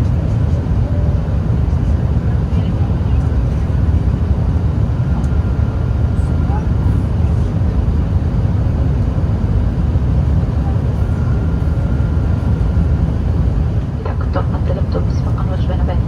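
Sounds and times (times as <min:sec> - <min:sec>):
faint steady whine: 0:00.0 - 0:16.0
jet engines roaring in cabin: 0:00.0 - 0:16.0.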